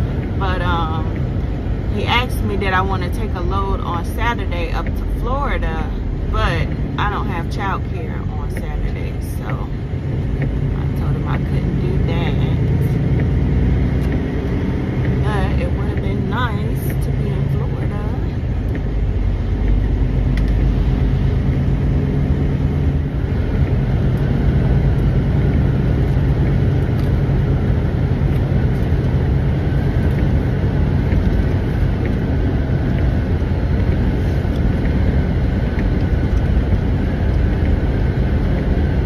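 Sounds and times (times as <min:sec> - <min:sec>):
diesel truck engine rumble: 0:00.0 - 0:39.0
road noise: 0:00.0 - 0:39.0.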